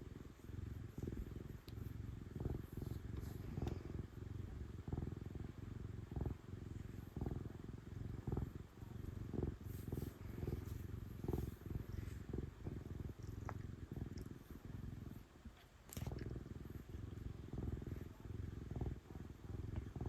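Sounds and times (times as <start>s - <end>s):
cat purring loudly: 0.0s - 20.0s.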